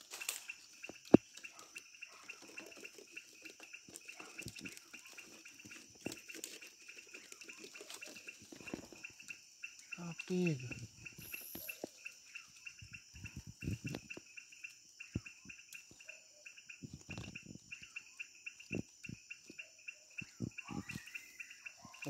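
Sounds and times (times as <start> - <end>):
nestlings chirping: 0.0 - 22.0.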